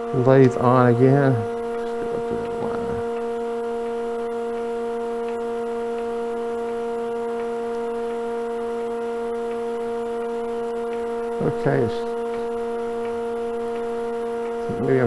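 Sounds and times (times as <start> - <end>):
electric motor hum: 0.0 - 15.0.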